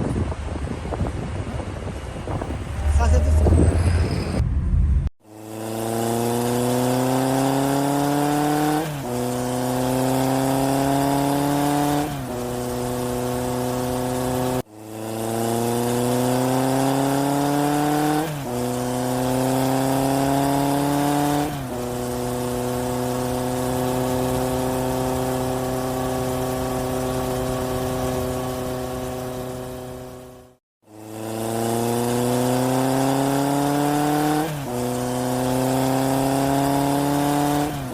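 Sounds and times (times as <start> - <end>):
car engine accelerating through gears: 1.5 - 37.9.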